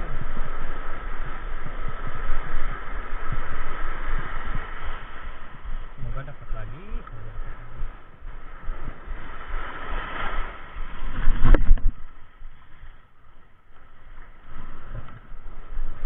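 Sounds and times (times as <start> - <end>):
surf washing in: 0.0 - 16.0
wind buffeting microphone: 0.0 - 16.0.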